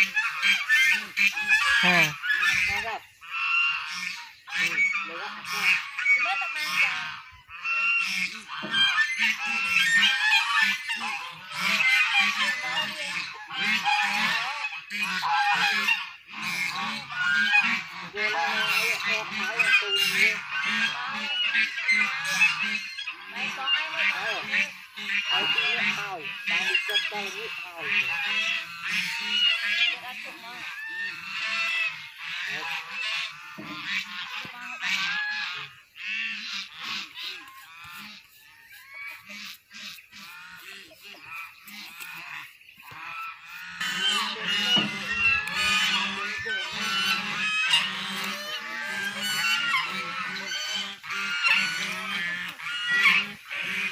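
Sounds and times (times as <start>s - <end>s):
geese honking: 0.0s - 53.9s
many birds calling: 0.0s - 53.9s.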